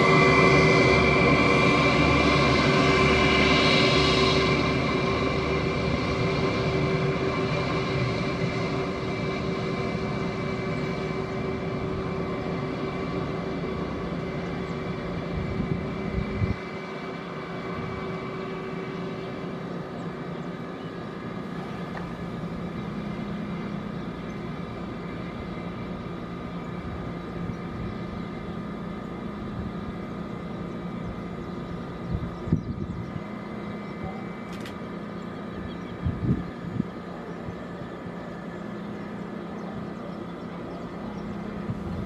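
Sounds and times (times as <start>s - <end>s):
jet engines whining: 0.0s - 42.0s.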